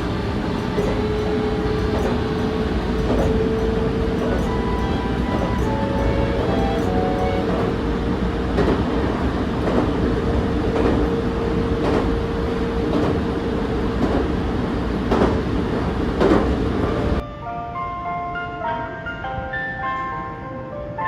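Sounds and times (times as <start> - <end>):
train wheels clicking over rail joints: 0.0 - 17.1
train rumble: 0.0 - 17.2.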